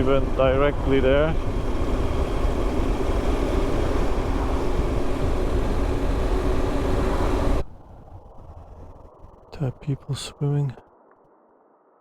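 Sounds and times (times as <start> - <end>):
motorcycle engine running: 0.0 - 10.0
wind and road noise: 0.0 - 11.2.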